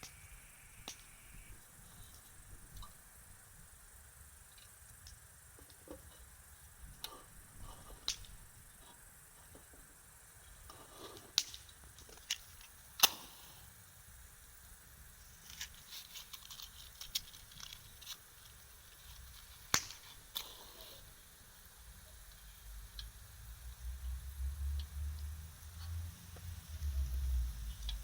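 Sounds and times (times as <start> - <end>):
campfire crackling and popping: 0.0 - 3.8, 4.4 - 28.0.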